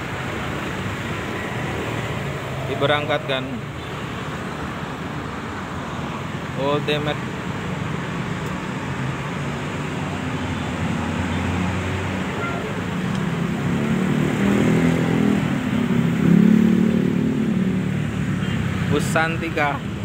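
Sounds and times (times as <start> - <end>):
cars passing: 0.0 - 20.0.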